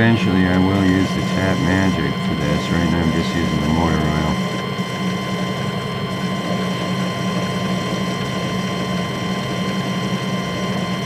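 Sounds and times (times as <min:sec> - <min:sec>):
metal lathe gear whine: 0:00.0 - 0:11.0.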